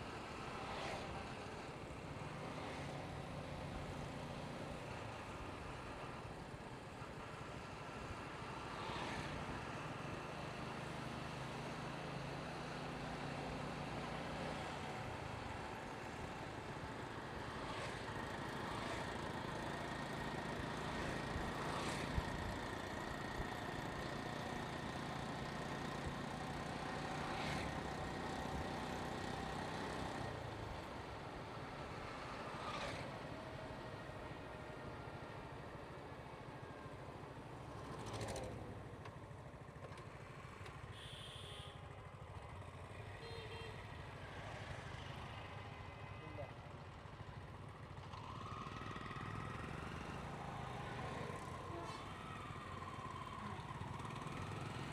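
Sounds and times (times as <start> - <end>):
road and traffic noise: 0.0 - 54.9.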